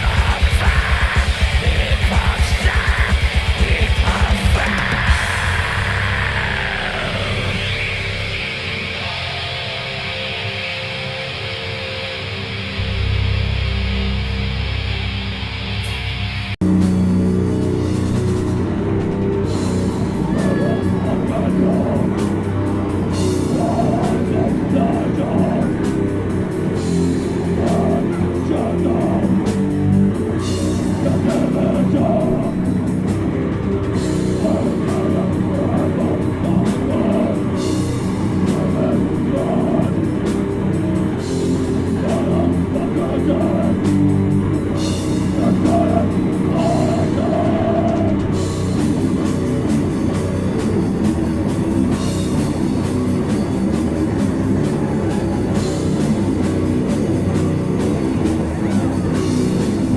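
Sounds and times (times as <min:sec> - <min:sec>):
fast dense drumming: 0:00.0 - 0:08.6, 0:17.7 - 0:59.9
distorted guitars: 0:00.0 - 0:59.9
metal vocals: 0:00.0 - 0:59.9.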